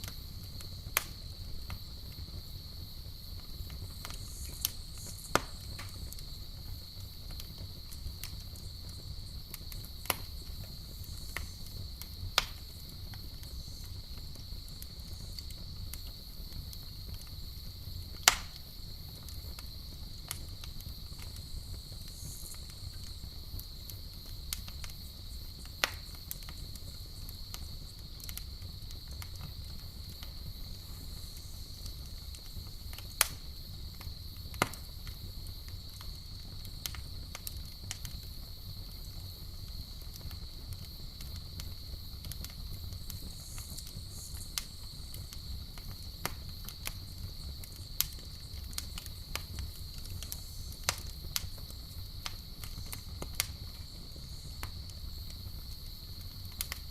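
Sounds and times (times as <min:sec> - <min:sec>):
campfire crackling and popping: 0:00.0 - 0:56.9
crickets chirring: 0:00.0 - 0:56.9.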